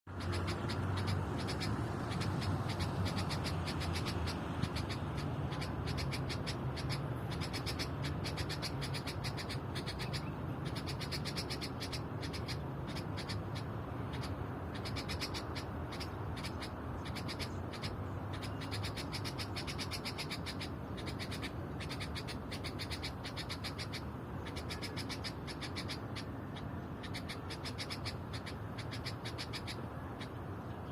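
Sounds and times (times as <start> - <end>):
songbird chattering song: 0.1 - 30.9.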